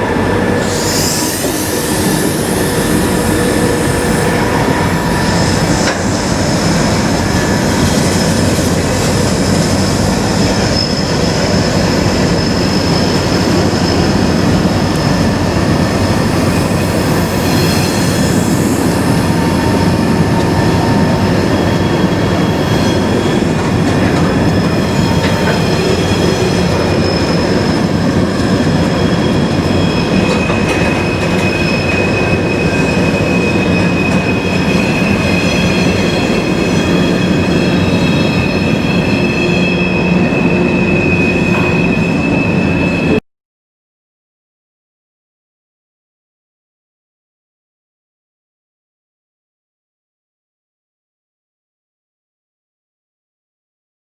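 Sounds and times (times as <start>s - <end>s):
wheels squealing against rail: 0.0s - 43.2s.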